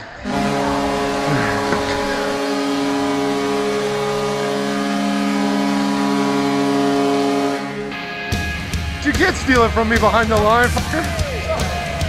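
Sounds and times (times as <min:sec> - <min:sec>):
arena goal horn blasting: 0:00.2 - 0:10.3.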